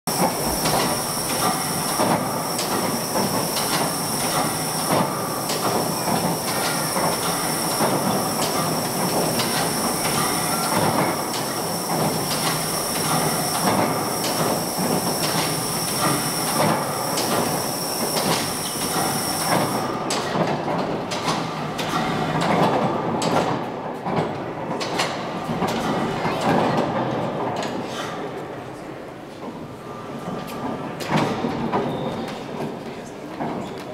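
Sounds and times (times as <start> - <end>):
steam locomotive mechanical clatter: 0.1 - 28.6.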